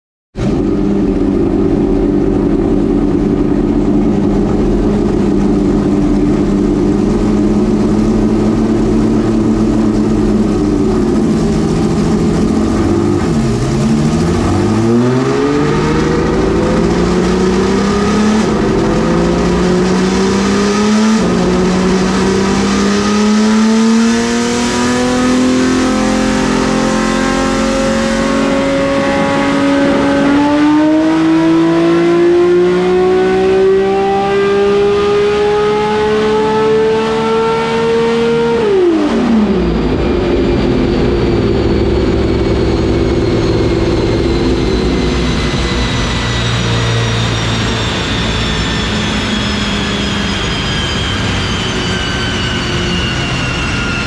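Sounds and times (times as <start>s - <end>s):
race engine revving: 0.4s - 54.0s.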